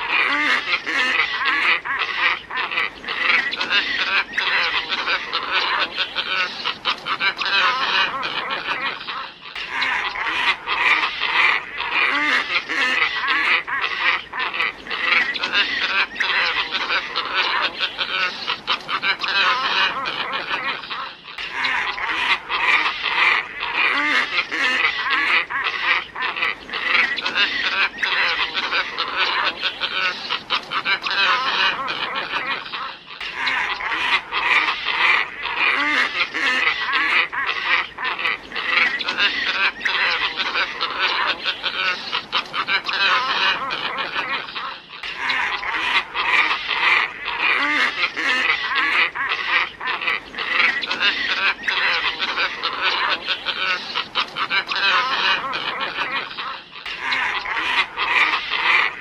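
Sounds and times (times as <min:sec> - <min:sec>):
ibis flock calling: 0:00.0 - 0:59.0.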